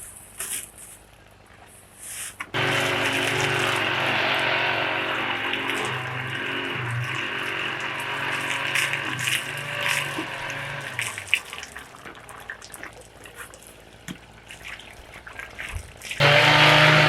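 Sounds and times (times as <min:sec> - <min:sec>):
water running and splashing: 0:02.5 - 0:17.0.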